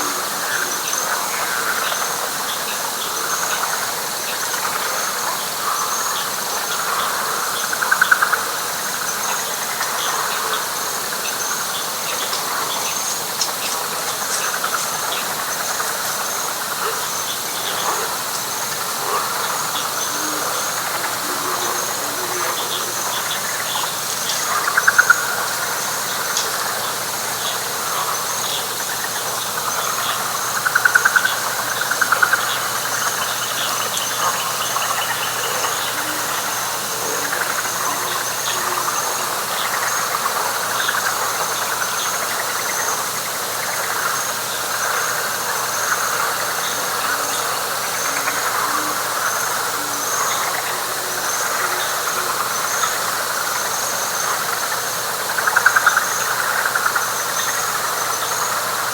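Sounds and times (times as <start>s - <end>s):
frog calls: 0.0s - 58.9s
loud rapid pulsed frog call: 0.0s - 58.9s.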